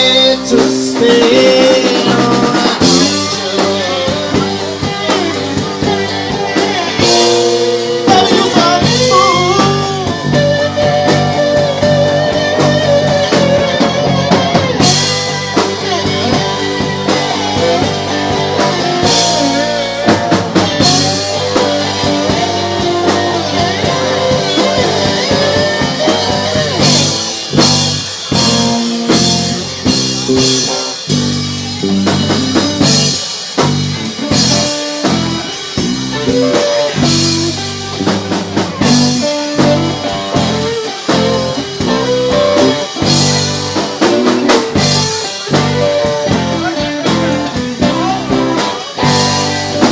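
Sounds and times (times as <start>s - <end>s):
drum kit: 0.0s - 49.9s
guitar with bending notes: 0.0s - 49.9s.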